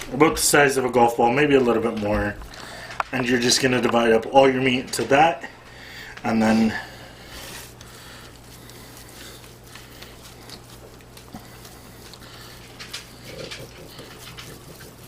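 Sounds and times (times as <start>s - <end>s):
hands rolling raw meat: 0.0s - 15.0s
steady low hum: 0.0s - 15.0s.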